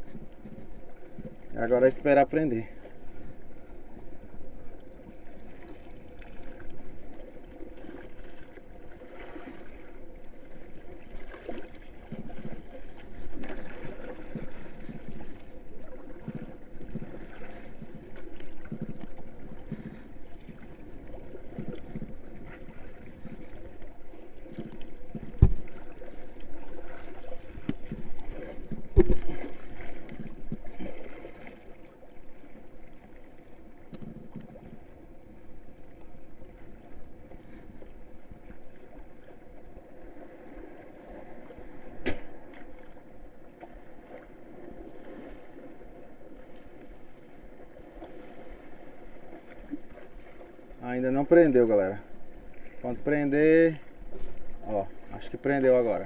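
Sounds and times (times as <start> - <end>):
small waves lapping against board: 0.0 - 56.0.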